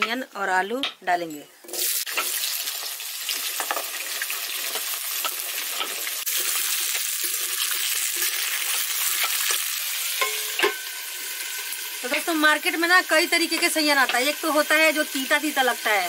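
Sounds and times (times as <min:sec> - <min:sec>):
vegetables sizzling in hot oil: 0:01.6 - 0:16.0.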